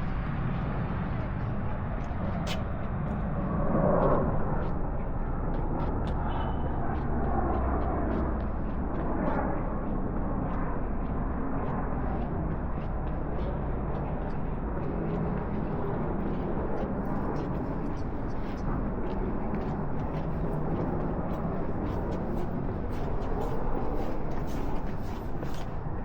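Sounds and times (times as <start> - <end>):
distant traffic hum: 0.0 - 26.0
light footsteps: 0.0 - 26.0.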